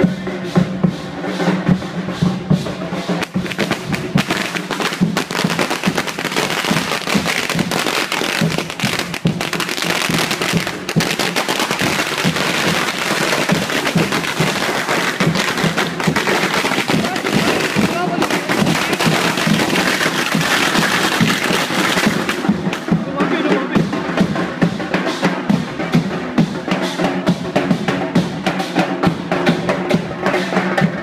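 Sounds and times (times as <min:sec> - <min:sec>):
drumming music: 0:00.0 - 0:31.0
firecrackers crackling: 0:00.5 - 0:31.0.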